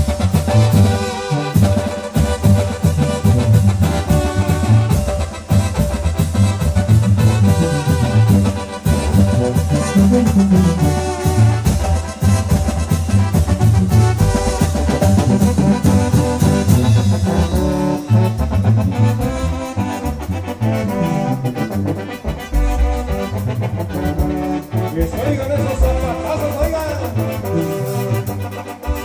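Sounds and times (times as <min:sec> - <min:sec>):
brass melody: 0:00.0 - 0:29.0
drum kit: 0:00.0 - 0:29.0
keyboards: 0:00.0 - 0:29.0.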